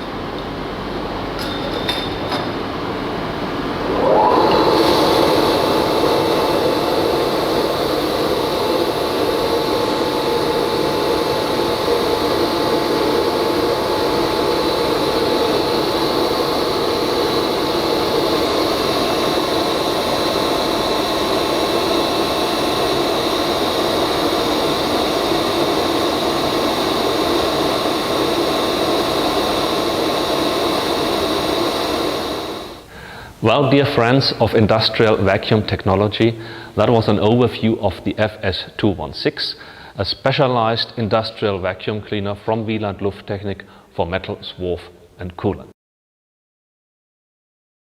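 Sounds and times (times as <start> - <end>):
industrial vacuum running: 0.0 - 38.8.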